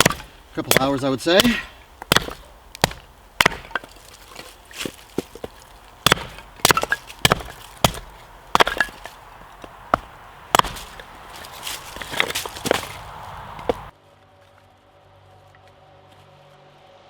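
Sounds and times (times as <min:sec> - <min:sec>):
blade chopping wood: 0:00.0 - 0:13.9.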